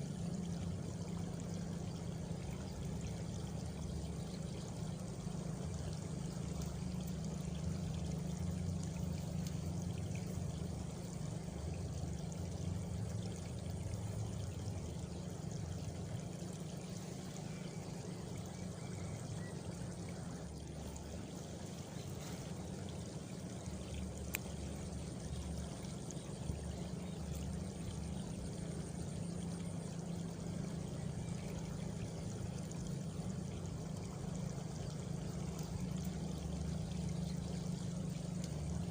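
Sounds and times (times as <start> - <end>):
faint high insect trill: 0.0 - 38.9
flowing water rushing: 0.0 - 38.9.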